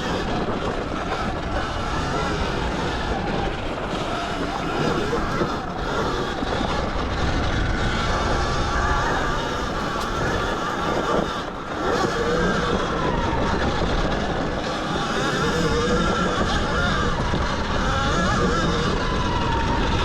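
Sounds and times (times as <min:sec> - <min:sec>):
electric motor whine: 0:00.0 - 0:20.0
wind and tyre noise: 0:00.0 - 0:20.0.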